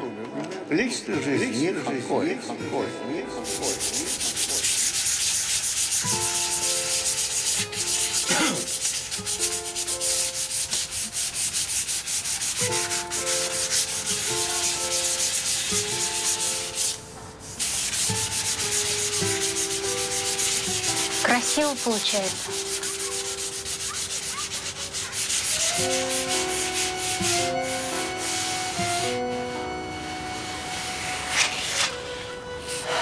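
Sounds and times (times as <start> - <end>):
quiet slow melody: 1.1 - 33.0
sandpaper rubbing on wood: 3.4 - 29.3, 30.4 - 33.0.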